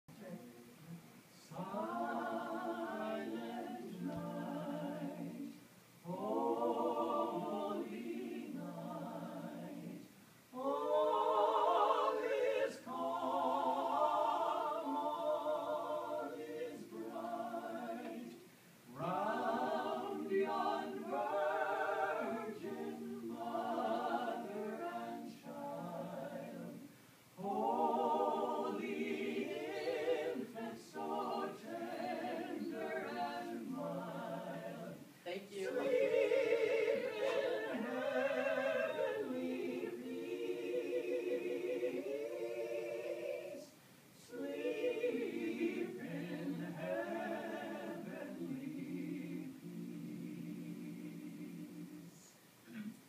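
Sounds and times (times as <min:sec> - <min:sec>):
carolers singing a cappella: 0:01.0 - 0:52.9.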